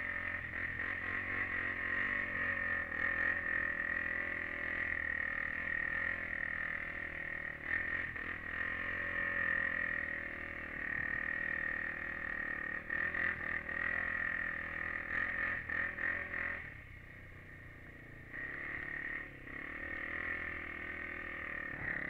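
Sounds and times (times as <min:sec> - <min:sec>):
quad engine running: 0:00.0 - 0:22.0.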